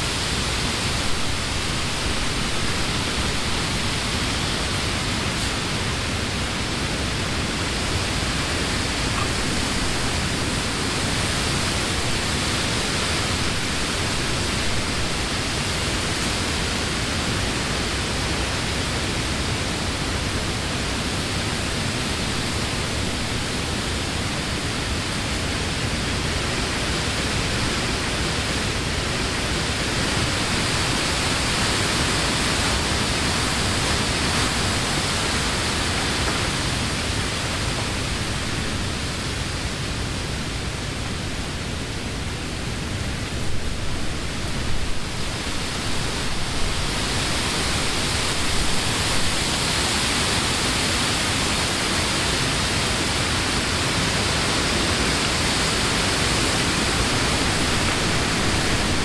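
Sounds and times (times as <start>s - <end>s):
wind rustling tree leaves: 0.0s - 59.0s.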